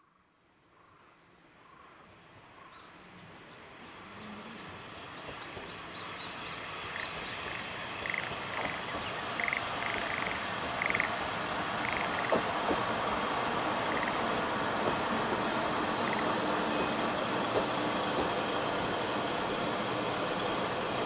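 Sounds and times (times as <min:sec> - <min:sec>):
diesel railcar approaching: 0:02.3 - 0:21.0.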